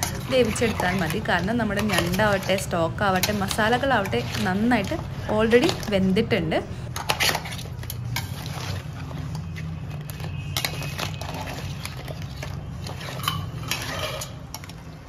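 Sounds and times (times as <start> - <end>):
metal spoon scraping a pan: 0.0 - 15.0.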